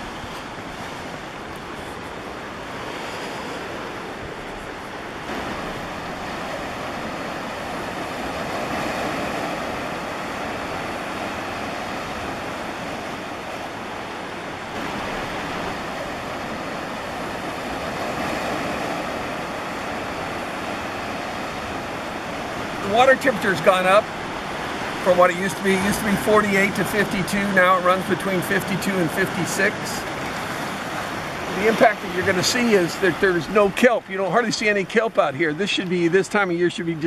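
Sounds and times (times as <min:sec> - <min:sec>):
ocean surf on rocky shore: 0:00.0 - 0:37.0.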